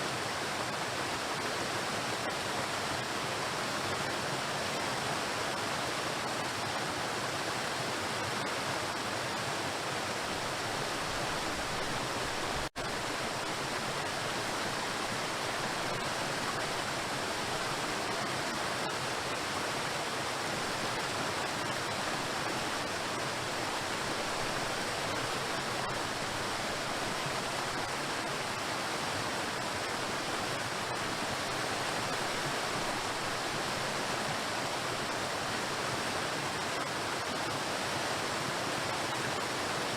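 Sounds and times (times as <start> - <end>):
waterfall crashing on rocks: 0.0 - 39.9.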